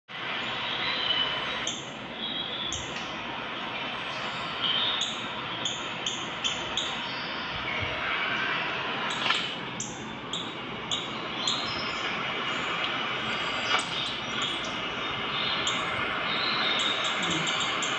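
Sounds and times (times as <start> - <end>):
steady rushing noise: 0.1 - 17.9.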